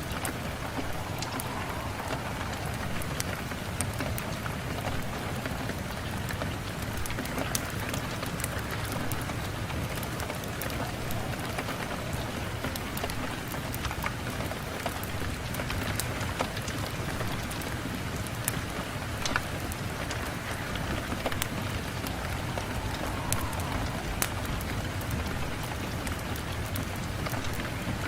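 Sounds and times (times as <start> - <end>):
rain on a window: 0.0 - 28.0.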